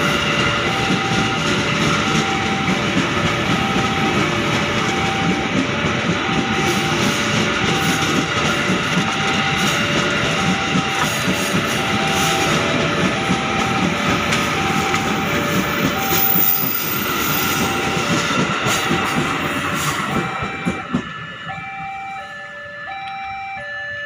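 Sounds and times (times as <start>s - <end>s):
train wheels rumbling on rails: 0.0s - 23.6s.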